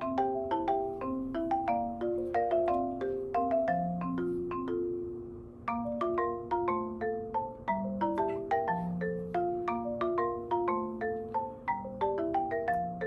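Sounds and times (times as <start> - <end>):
marimba-like mallet melody: 0.0 - 13.0.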